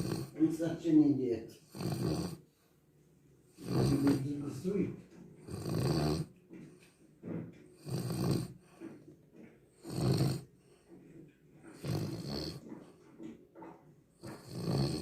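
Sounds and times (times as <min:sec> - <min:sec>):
dog snoring: 0:00.0 - 0:00.6, 0:01.6 - 0:02.6, 0:03.5 - 0:09.1, 0:09.7 - 0:15.0.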